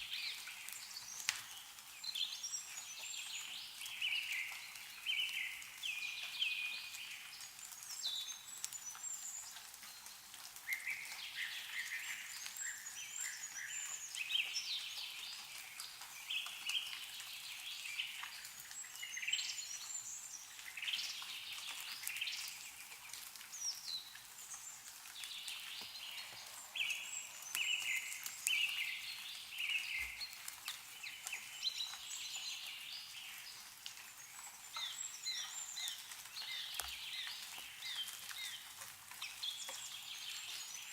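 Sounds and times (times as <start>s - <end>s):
meltwater dripping: 0.0s - 40.9s
songbirds chirping and trilling: 0.0s - 40.9s.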